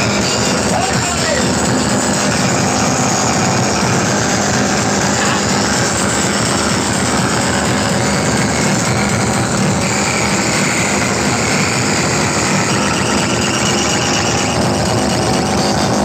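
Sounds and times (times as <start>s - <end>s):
distorted loud speaker music: 0.0s - 16.0s.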